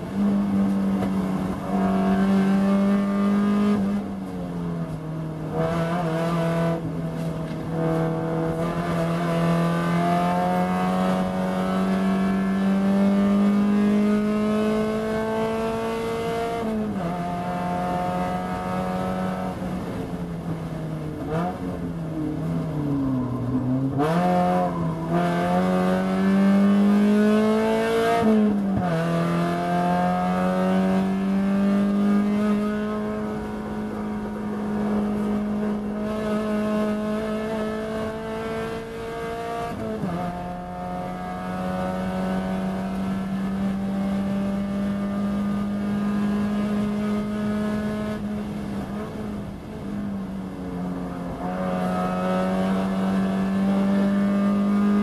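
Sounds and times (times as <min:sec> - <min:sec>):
race car engine revving: 0:00.0 - 0:22.7, 0:23.4 - 0:55.0.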